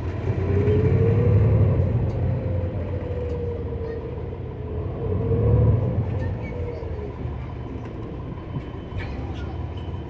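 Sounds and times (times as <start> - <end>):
bus engine rumble and whine: 0.0 - 10.0.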